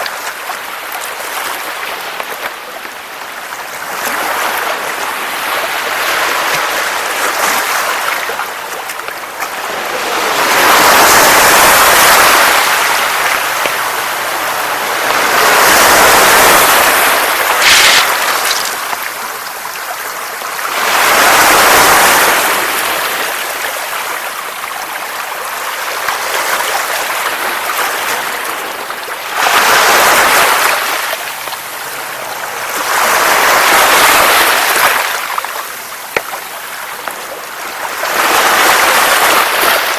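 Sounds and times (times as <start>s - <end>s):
sea surf washing onto beach: 0.0s - 39.9s.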